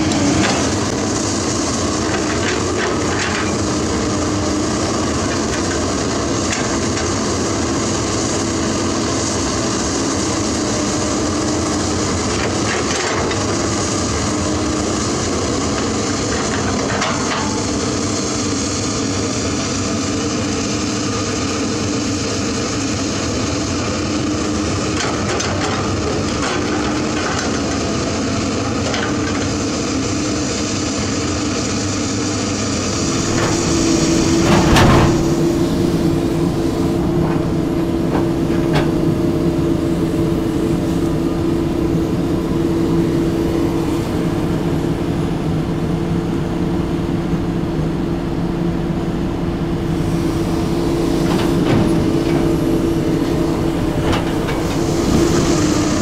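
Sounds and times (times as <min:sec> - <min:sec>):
excavator engine hum: 0:00.0 - 0:56.0.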